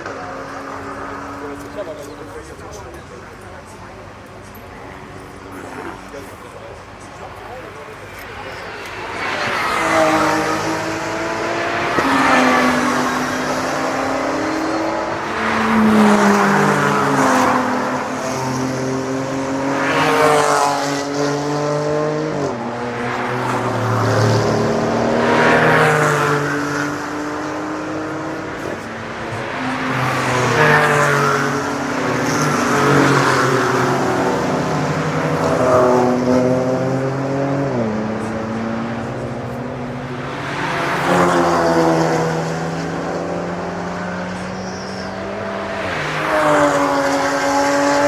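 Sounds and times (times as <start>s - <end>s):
race cars passing: 0.0s - 48.0s.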